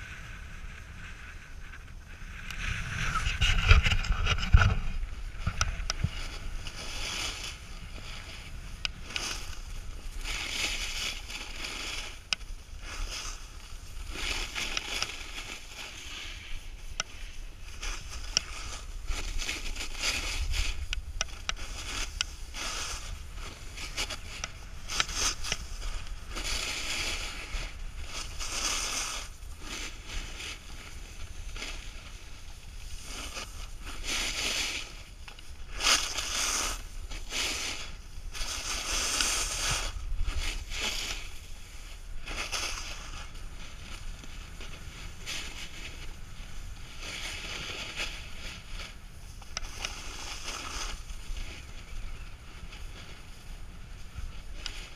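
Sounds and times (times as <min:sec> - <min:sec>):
low wind rumble: 0:00.0 - 0:54.9
snowboard scraping on snow: 0:00.0 - 0:54.9.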